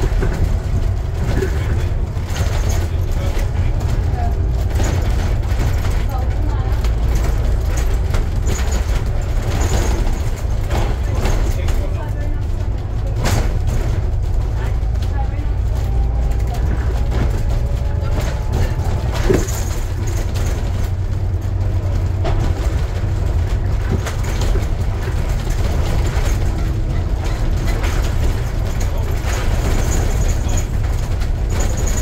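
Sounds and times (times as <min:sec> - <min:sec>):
diesel engine drone: 0:00.0 - 0:32.0
road noise: 0:00.0 - 0:32.0.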